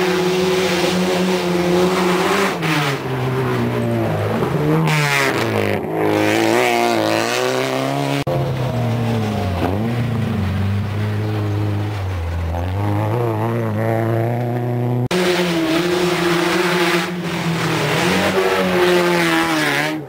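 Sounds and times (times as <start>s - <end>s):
rally car passing at speed: 0.0s - 20.0s.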